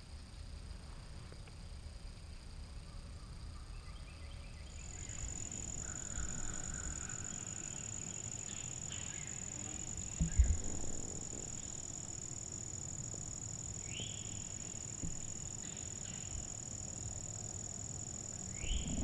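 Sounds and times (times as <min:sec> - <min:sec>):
insects buzzing: 0:03.5 - 0:19.0.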